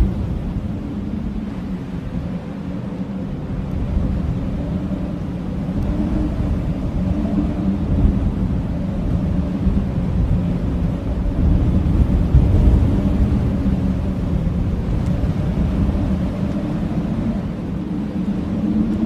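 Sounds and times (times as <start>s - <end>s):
blizzard wind rumbling: 0.0s - 19.0s
faint wind howl: 0.0s - 19.0s.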